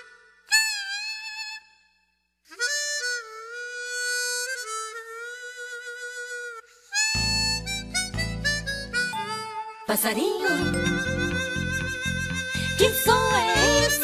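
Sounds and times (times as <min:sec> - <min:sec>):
harmonica playing: 0:00.0 - 0:14.0.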